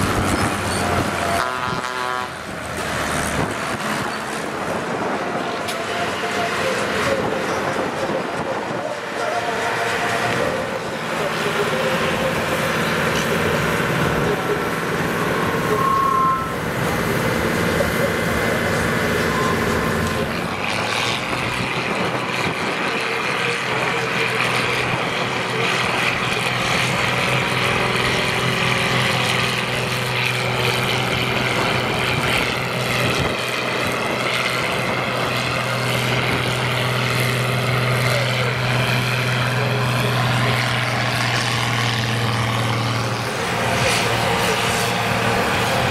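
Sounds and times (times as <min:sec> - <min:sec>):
tractor diesel engines under load: 0:00.0 - 0:45.9.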